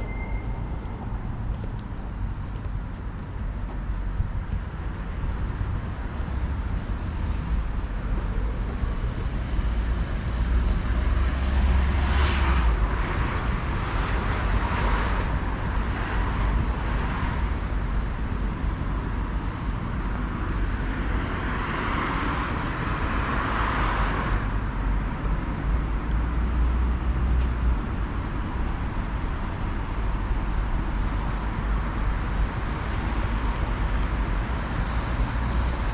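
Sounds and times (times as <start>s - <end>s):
low traffic rumble: 0.0s - 35.9s
vehicles passing: 0.0s - 35.9s.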